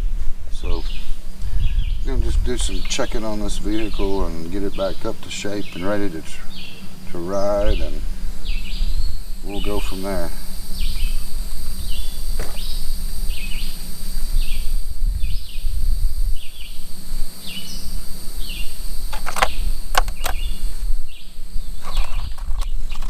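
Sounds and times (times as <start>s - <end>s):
steady low rumble: 0.0s - 21.8s
constant high whine: 0.0s - 23.0s.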